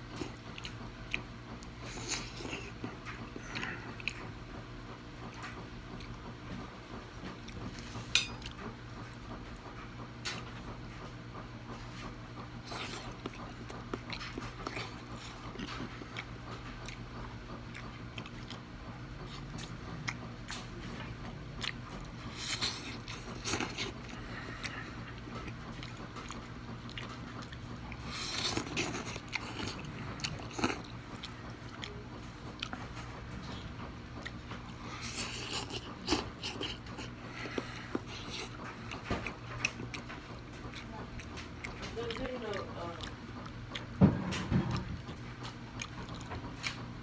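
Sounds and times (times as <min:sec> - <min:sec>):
wet chewing: 0:00.0 - 0:11.0, 0:11.8 - 0:47.0
steady low hum: 0:00.0 - 0:47.0.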